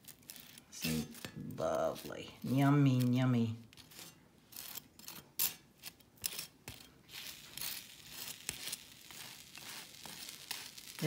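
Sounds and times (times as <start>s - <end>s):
knife scraping toast: 0.0s - 1.4s, 2.4s - 11.0s.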